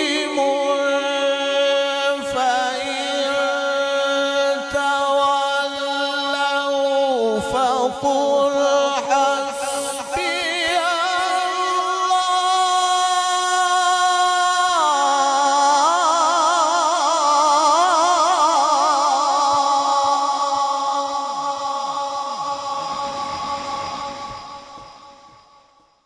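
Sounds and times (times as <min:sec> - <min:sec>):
man chanting melodic note: 0:00.0 - 0:25.4.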